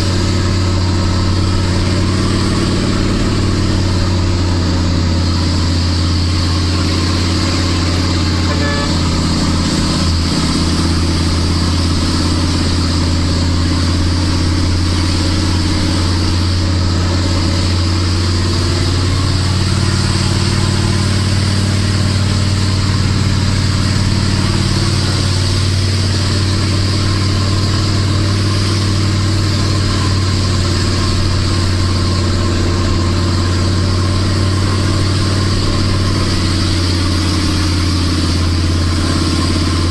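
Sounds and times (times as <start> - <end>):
diesel truck engine pulling uphill: 0.0 - 39.9.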